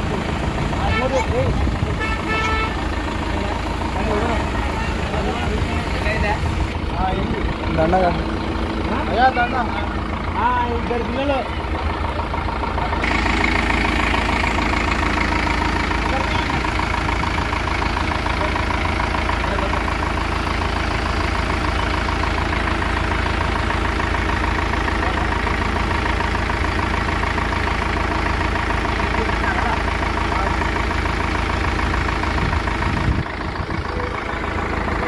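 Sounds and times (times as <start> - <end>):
tractor diesel engine idling: 0.0 - 35.0.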